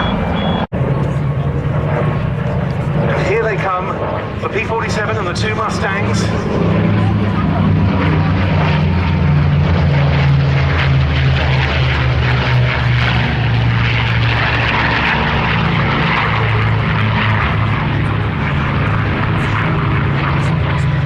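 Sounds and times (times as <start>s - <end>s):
propeller aircraft engines droning: 0.0s - 21.0s.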